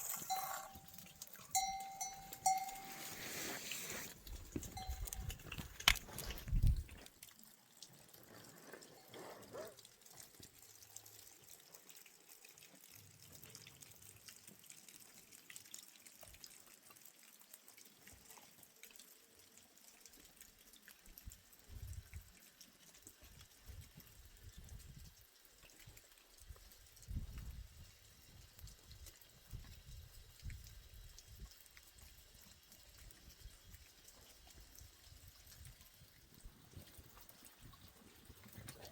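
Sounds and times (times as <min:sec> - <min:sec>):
water dripping: 0:00.0 - 0:38.9.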